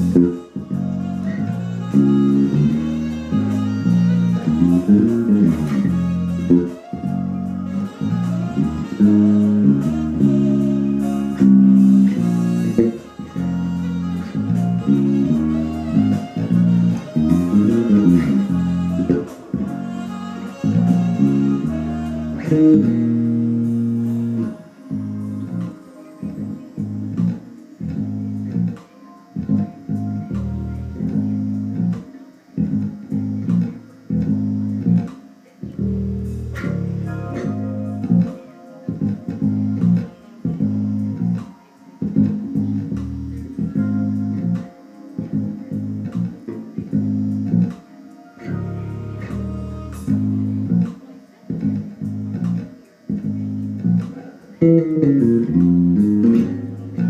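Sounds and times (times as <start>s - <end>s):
electric bass guitar fingerstyle: 0.0s - 57.0s.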